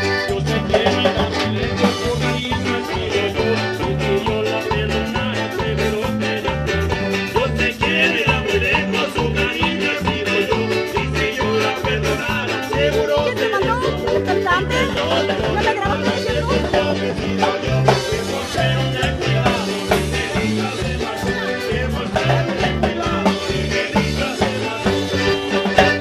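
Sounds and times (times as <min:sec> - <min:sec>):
live band playing latin dance music: 0:00.0 - 0:26.0.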